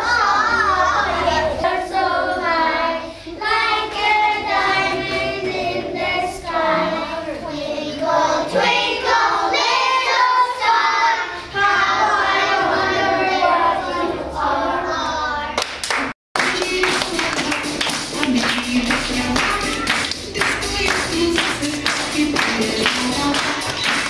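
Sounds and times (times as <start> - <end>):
children singing together: 0.0 - 15.6, 18.4 - 24.0.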